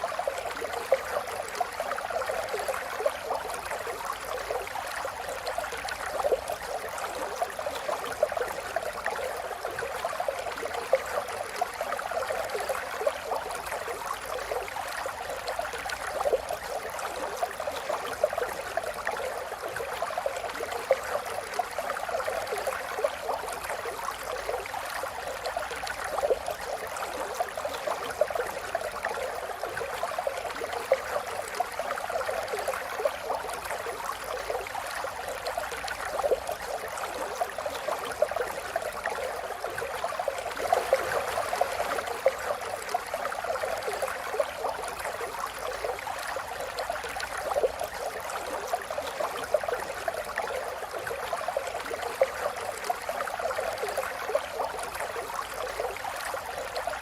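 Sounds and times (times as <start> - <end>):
river flowing: 0.0 - 57.0
water splashing and gurgling: 0.0 - 57.0.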